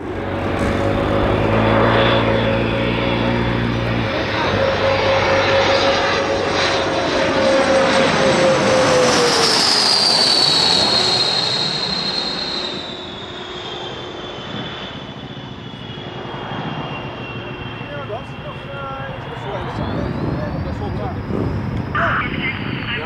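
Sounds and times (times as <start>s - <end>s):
jet passing overhead whining: 0.0s - 23.0s.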